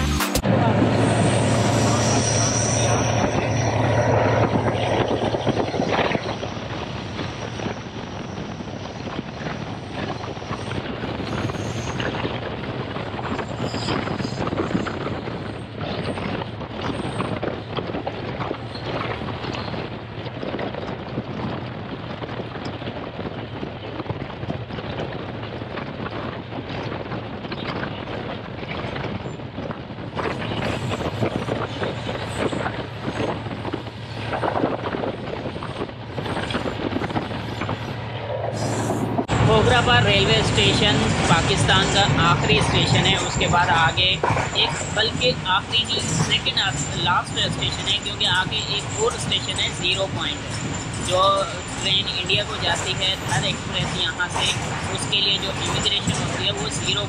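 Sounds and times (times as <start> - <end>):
train wheels rumbling on rails: 0.4 - 57.0.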